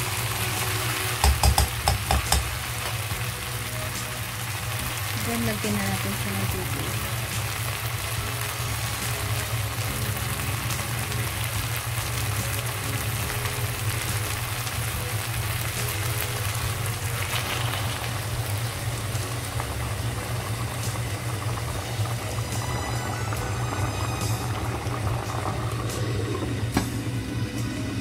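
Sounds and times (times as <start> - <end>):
food sizzling in a pot: 0.0 - 28.0.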